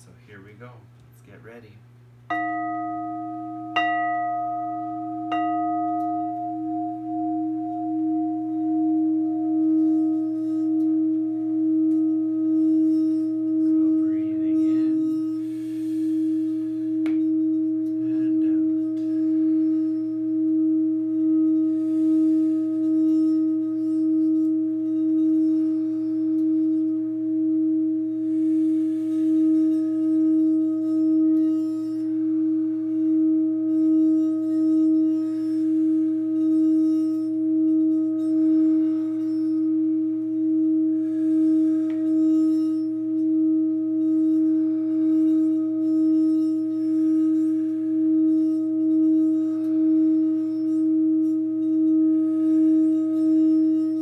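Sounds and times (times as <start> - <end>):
singing bowl ringing tone: 2.3 - 54.0
singing bowl struck: 2.3 - 54.0.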